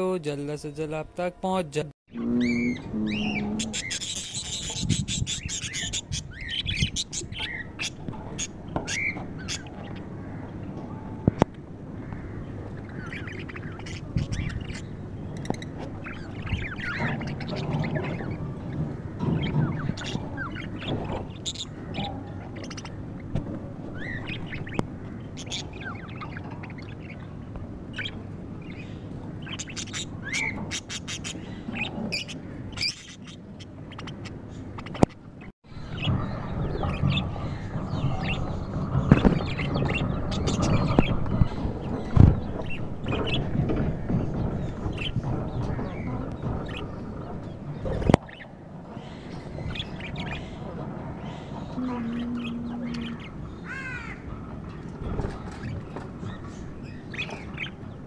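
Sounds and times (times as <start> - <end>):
low background rumble: 0.0 - 58.0
budgerigars chattering: 2.1 - 10.5, 12.1 - 54.2, 55.0 - 58.0.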